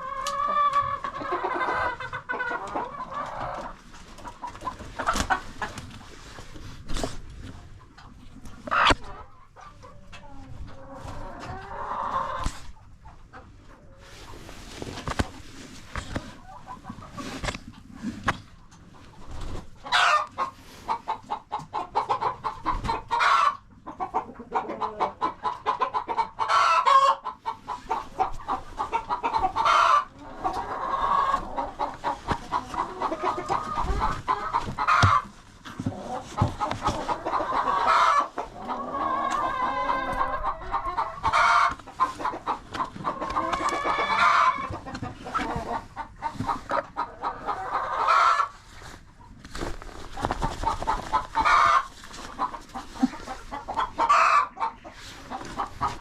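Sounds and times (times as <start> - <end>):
chickens squawking: 0.0 - 6.0, 8.0 - 14.5, 19.1 - 48.6, 50.0 - 56.0
chickens clucking: 0.0 - 56.0.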